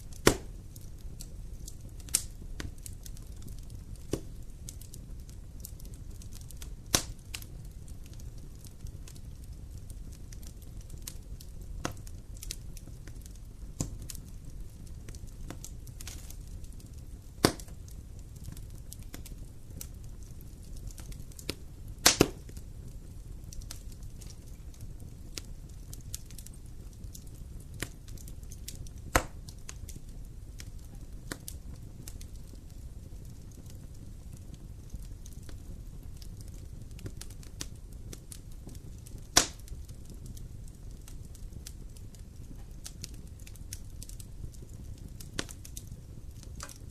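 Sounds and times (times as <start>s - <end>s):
campfire flames rushing: 0.0s - 46.9s
fire crackling and popping: 0.0s - 46.9s.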